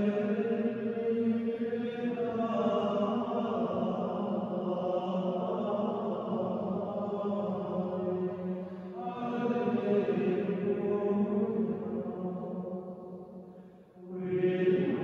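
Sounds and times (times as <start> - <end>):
monks chanting in unison: 0.0 - 15.0.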